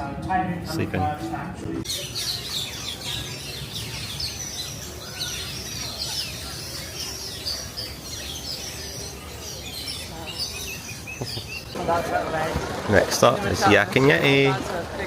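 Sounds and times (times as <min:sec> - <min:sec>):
low crowd hum: 0:00.0 - 0:15.0
birds chirping: 0:01.8 - 0:15.0.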